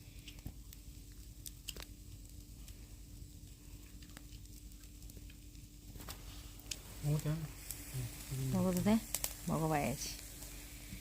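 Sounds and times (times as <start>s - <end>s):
food crackling over campfire: 0.0s - 11.0s.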